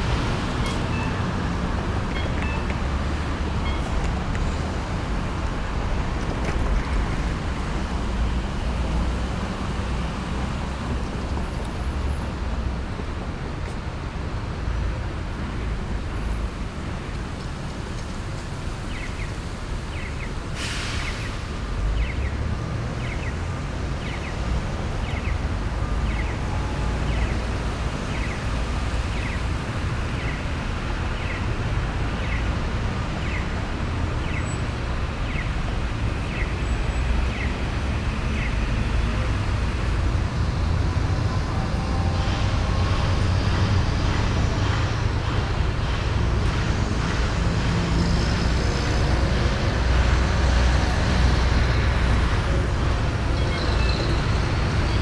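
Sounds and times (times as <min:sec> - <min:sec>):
passing cars and heavy vehicles: 0:00.0 - 0:55.0.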